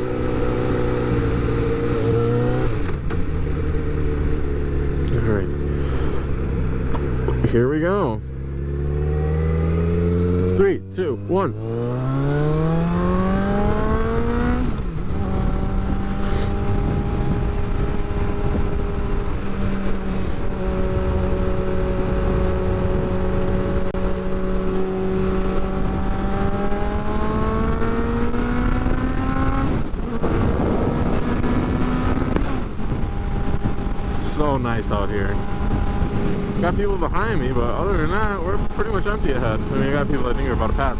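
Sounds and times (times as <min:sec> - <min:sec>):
wind rush: 0:00.0 - 0:04.8, 0:11.6 - 0:40.9
motorcycle engine accelerating: 0:00.0 - 0:40.9.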